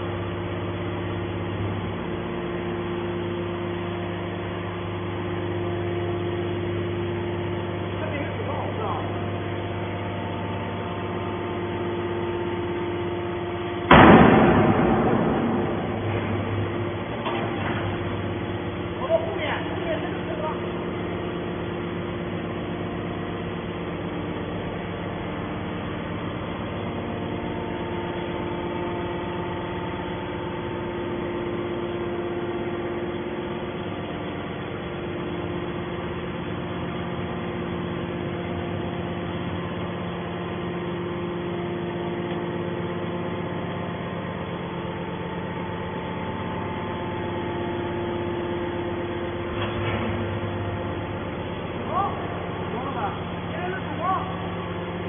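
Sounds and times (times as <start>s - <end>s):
hydraulic power unit running: 0.0s - 55.0s.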